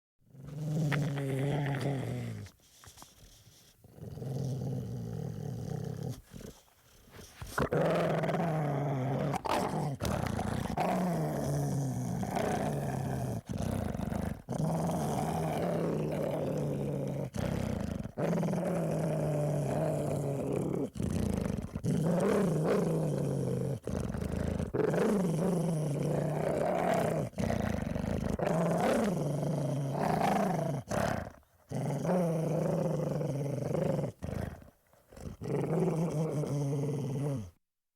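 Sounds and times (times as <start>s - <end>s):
dog growling: 0.3s - 2.6s, 3.3s - 37.6s.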